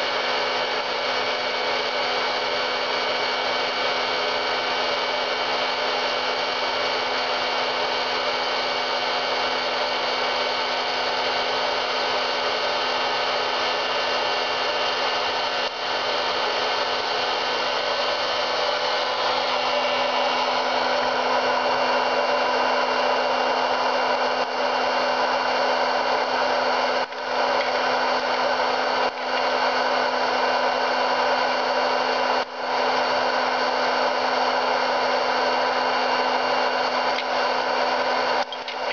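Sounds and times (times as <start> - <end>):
motor hum: 0.0 - 38.9.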